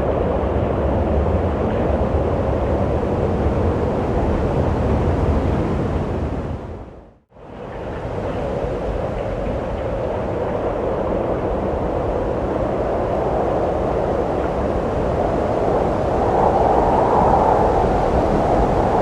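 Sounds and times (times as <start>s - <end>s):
wind blowing: 0.0s - 19.0s.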